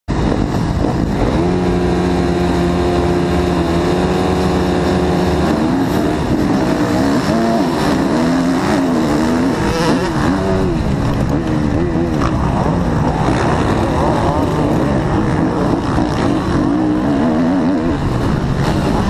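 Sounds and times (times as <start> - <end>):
motocross bike engines revving: 0.1 - 19.0.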